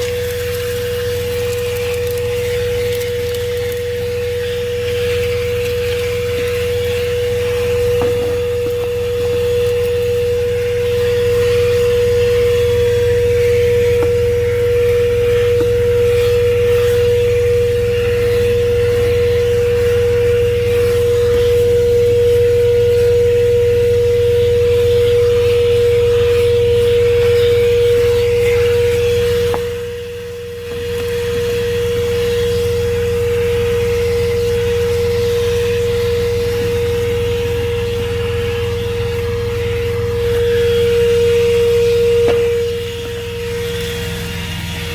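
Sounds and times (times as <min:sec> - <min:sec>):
handheld vacuum whining: 0:00.0 - 0:44.9
truck engine idling: 0:00.0 - 0:44.9.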